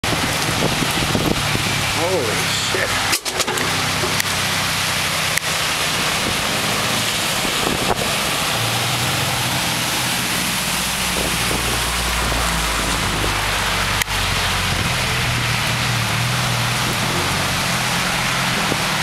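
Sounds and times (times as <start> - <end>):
heavy rain falling: 0.0 - 19.0
low engine hum: 0.0 - 19.0
vehicles driving through floodwater: 0.0 - 19.0.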